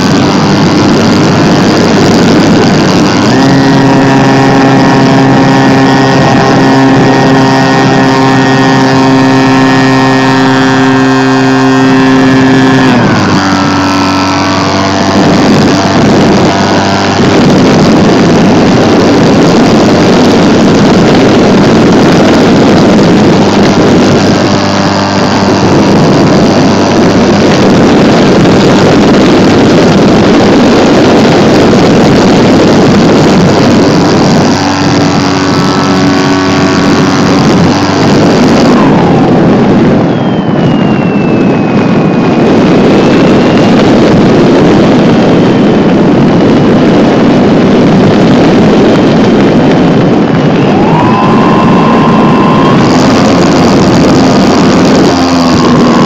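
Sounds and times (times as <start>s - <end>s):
faint whine falling in pitch: 0.0s - 45.7s, 48.0s - 56.0s
electric motor and propeller running: 0.0s - 56.0s
wind rush on microphone: 0.0s - 56.0s.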